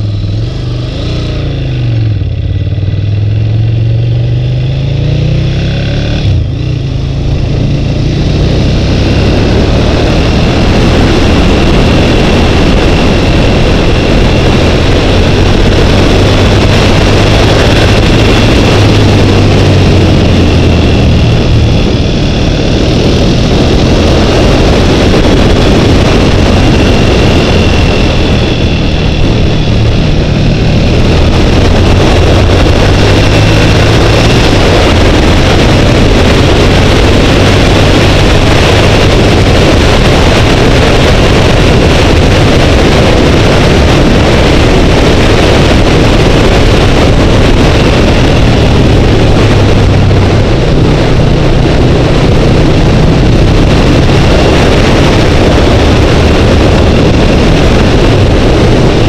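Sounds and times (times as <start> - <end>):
wind rush over helmet: 0.0 - 4.4, 5.2 - 59.0
motorcycle engine running: 0.0 - 59.0.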